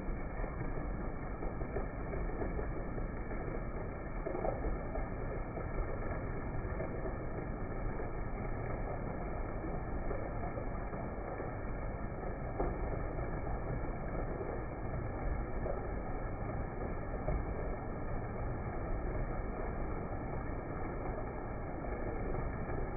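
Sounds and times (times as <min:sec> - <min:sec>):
heavy rain falling: 0:00.0 - 0:22.9.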